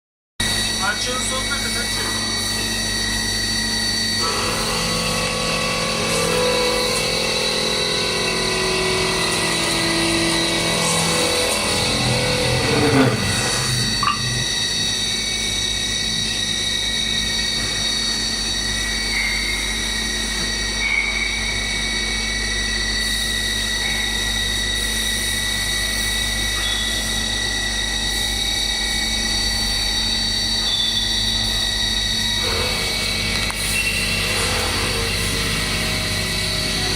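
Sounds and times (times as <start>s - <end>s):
milling machine spindle whining: 0.4s - 36.9s.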